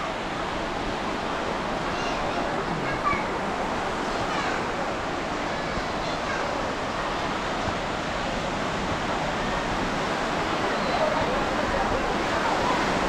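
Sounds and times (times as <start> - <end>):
ocean surf breaking: 0.0 - 13.0
faint voices: 1.0 - 13.0.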